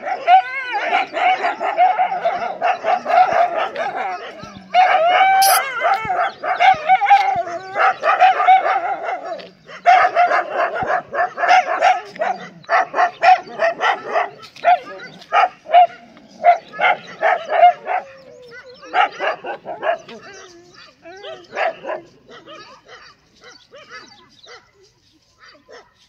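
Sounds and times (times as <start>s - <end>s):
dogs barking: 0.0s - 26.0s.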